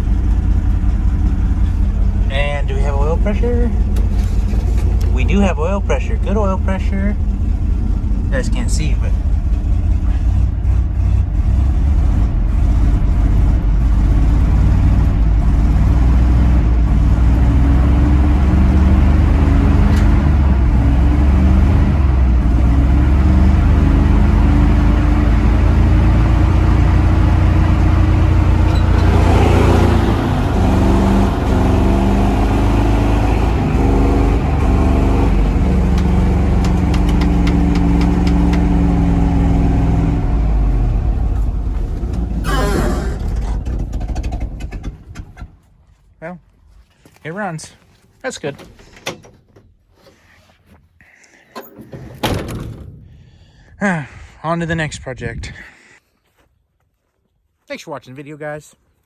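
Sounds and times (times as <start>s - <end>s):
truck engine running: 0.0s - 48.5s.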